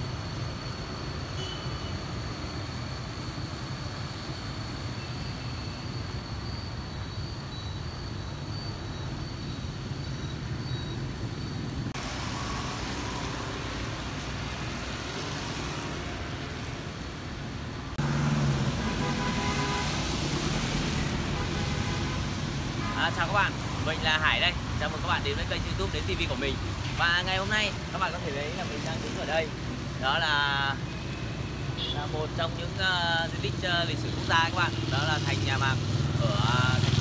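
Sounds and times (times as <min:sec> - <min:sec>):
street traffic passing: 0:00.0 - 0:37.0.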